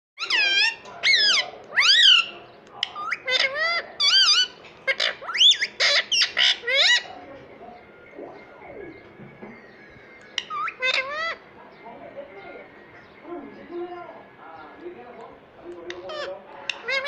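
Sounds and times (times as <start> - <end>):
parakeet squawking: 0.2 - 14.8, 15.8 - 17.0.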